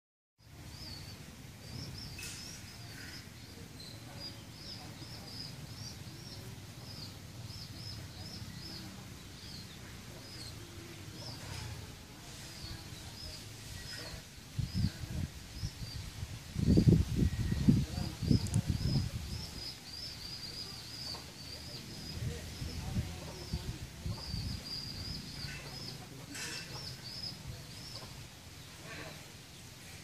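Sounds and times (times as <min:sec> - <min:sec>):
bird chirping: 0:00.4 - 0:11.8, 0:12.4 - 0:29.6.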